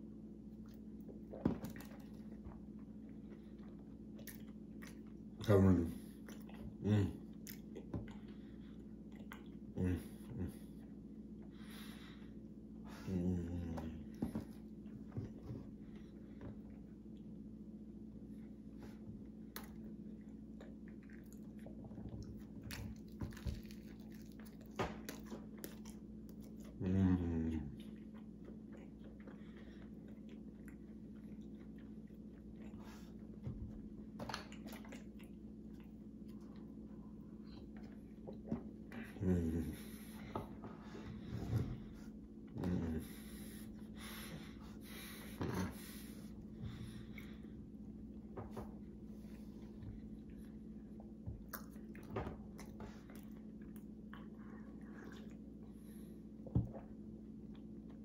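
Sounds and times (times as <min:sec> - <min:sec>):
room hum: 0:00.0 - 0:58.0
person chewing waffle: 0:00.6 - 0:05.4, 0:06.0 - 0:11.7, 0:18.6 - 0:58.0.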